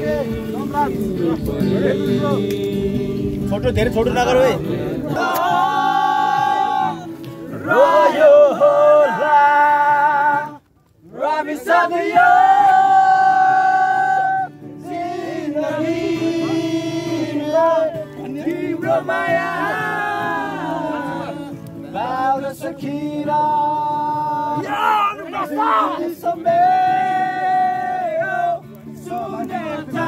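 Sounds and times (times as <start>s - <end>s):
men singing together: 0.0s - 30.0s.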